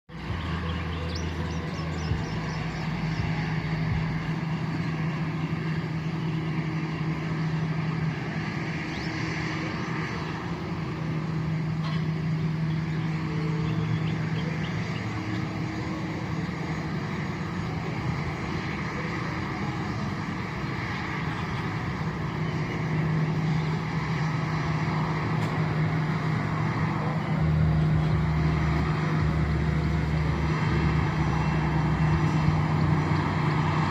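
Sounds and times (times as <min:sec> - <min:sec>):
jet engines droning: 0:00.1 - 0:33.9.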